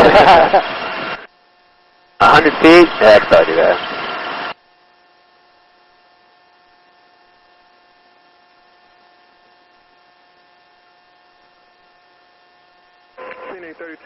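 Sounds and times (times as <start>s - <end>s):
electrical hum and hiss: 0.0s - 14.0s
thin steady whining tones: 0.0s - 14.0s.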